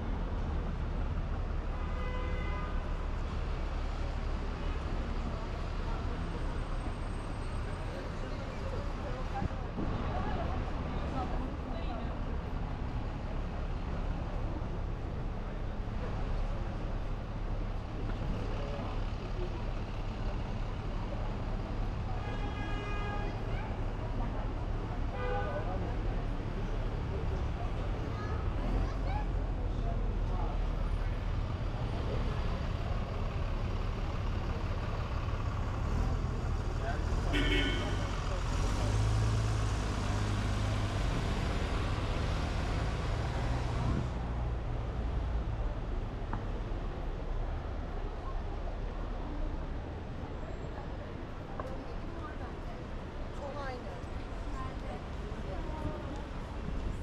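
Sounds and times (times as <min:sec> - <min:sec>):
traffic rumble: 0:00.0 - 0:57.0.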